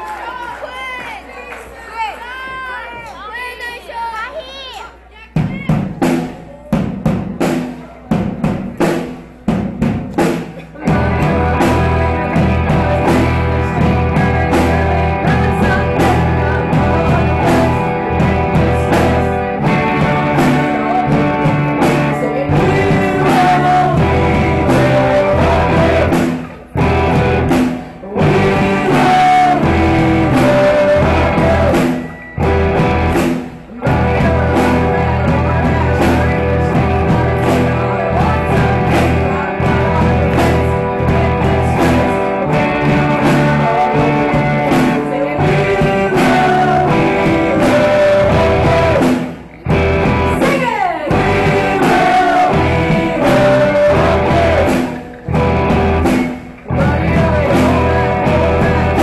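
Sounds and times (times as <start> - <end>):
live rock band: 5.4 - 59.0.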